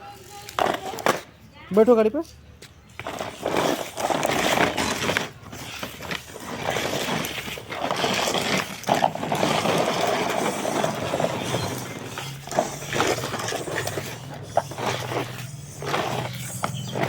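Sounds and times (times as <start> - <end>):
toy car wheels rolling on floor: 0.0 - 2.0, 2.9 - 17.0.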